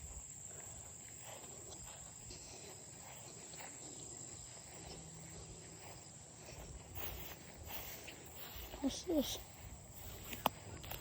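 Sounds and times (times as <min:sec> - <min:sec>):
crickets trilling: 0:00.0 - 0:11.0
footsteps on a trail: 0:00.0 - 0:11.0.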